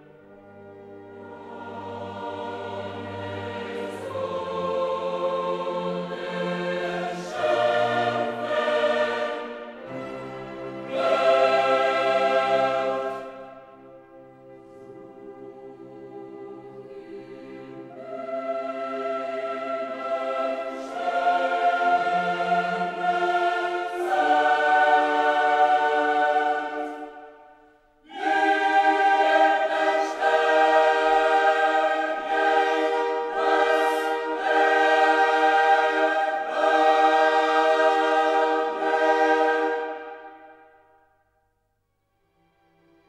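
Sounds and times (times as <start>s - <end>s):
choir singing held chords: 0.0s - 41.4s.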